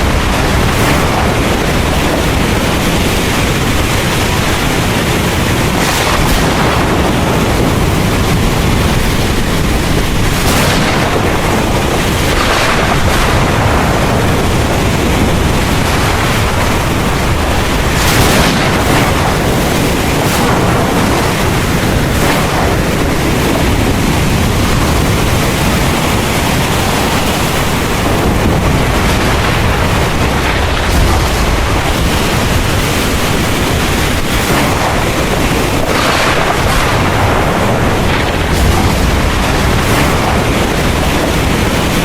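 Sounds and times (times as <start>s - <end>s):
heavy rain falling: 0.0s - 42.0s
low rumble of thunder: 0.0s - 42.0s.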